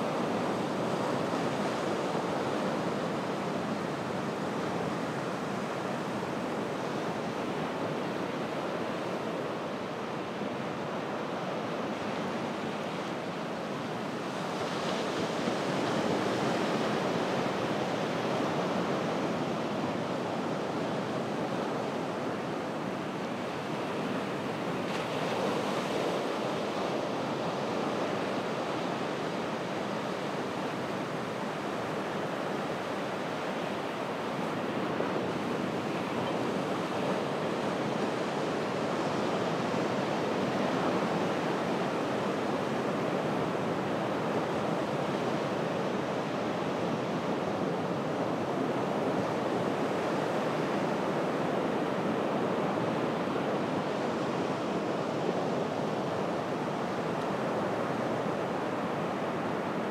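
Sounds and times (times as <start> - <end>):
ocean surf breaking on beach: 0.0 - 59.9.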